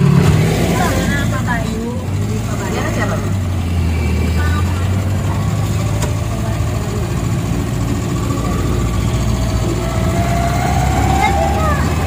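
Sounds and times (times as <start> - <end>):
minibus engine humming: 0.0 - 12.0.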